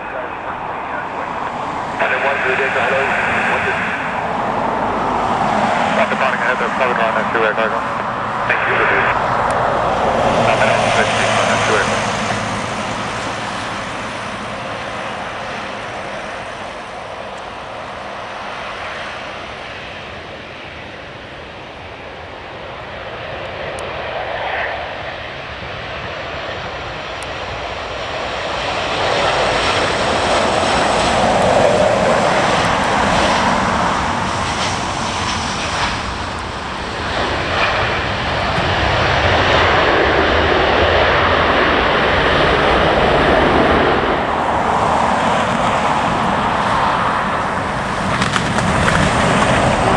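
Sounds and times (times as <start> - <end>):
airliner engines rushing: 0.0 - 49.9.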